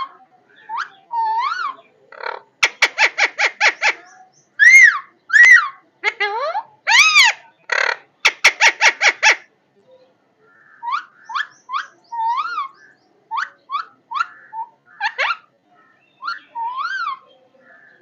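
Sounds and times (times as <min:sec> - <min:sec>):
parrot calling: 0:00.6 - 0:09.5, 0:10.7 - 0:15.5, 0:16.2 - 0:17.2.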